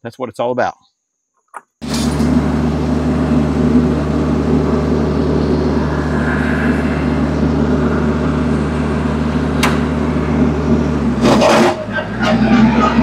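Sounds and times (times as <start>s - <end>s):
mulcher churning: 1.8s - 13.0s
tractor diesel engine: 1.8s - 13.0s.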